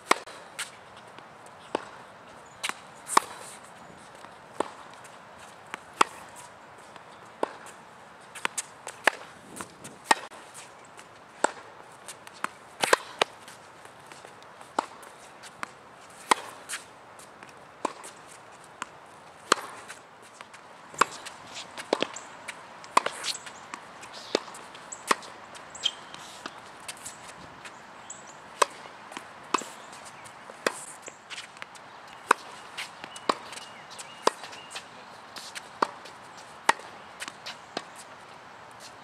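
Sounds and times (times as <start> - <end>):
tennis balls struck with rackets: 0.0 - 0.7, 1.6 - 2.0, 2.6 - 3.6, 4.2 - 10.5, 11.3 - 27.8, 28.5 - 38.2
tennis balls bouncing on hard court: 0.0 - 10.4, 11.0 - 34.8, 35.4 - 38.2.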